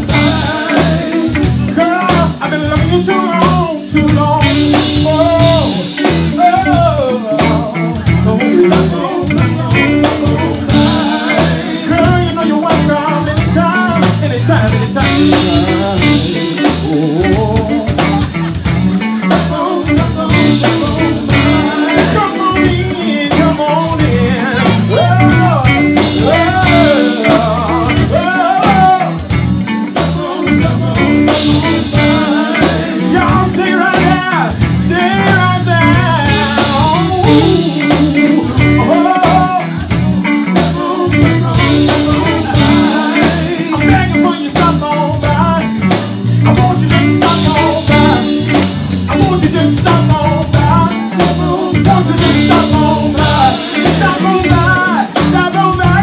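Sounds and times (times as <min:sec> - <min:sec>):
live blues band playing: 0:00.0 - 0:56.0.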